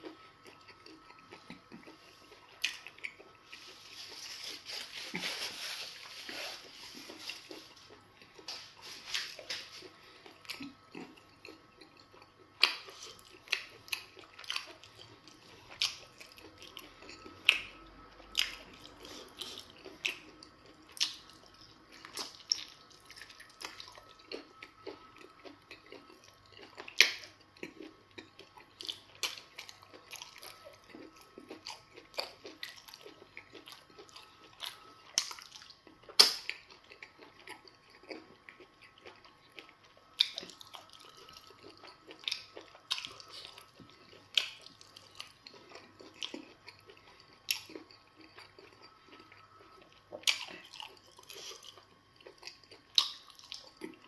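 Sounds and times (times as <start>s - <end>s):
soft chewing: 0.0s - 54.0s.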